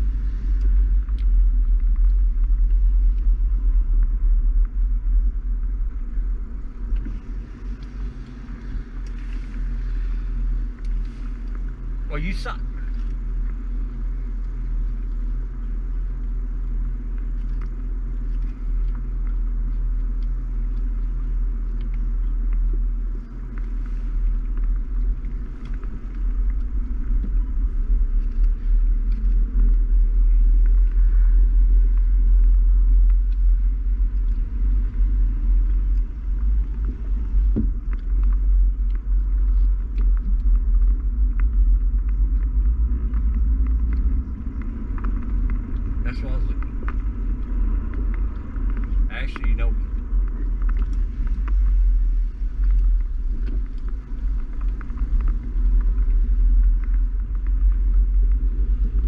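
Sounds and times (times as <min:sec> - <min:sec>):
car cabin rumble: 0:00.0 - 0:59.0
light ticks: 0:00.2 - 0:59.0.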